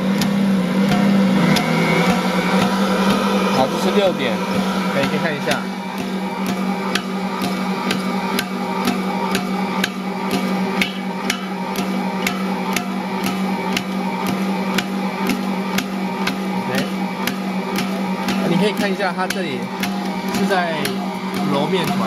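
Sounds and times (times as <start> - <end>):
dough knocking in bowl: 0.0 - 22.0
stand mixer motor hum: 0.0 - 22.0.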